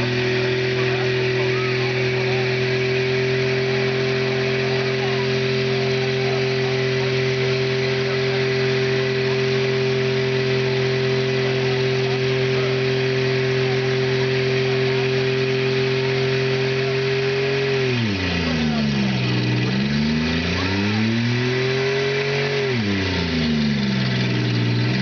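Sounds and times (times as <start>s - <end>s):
car engine revving: 0.0s - 25.0s
tyres spinning: 0.0s - 25.0s.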